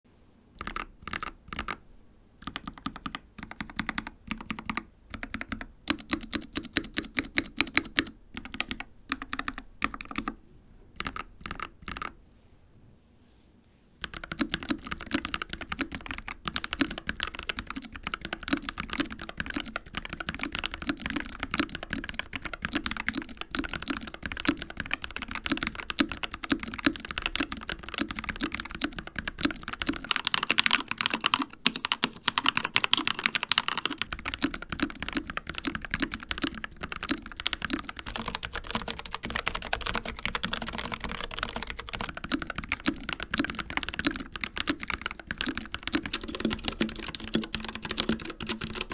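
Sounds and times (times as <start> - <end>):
typing on mechanical keyboard: 0.6 - 1.8, 2.4 - 10.4, 11.0 - 12.2, 14.0 - 48.9.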